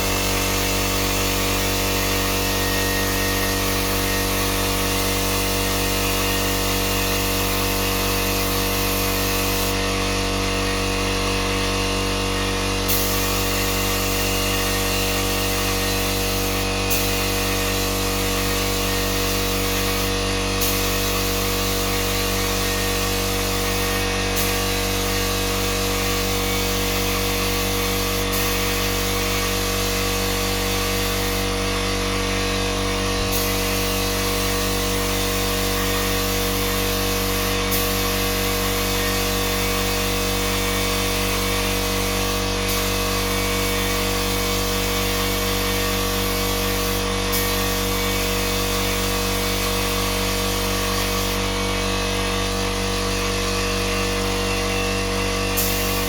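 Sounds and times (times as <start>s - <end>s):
power tool motor humming: 0.0s - 56.0s.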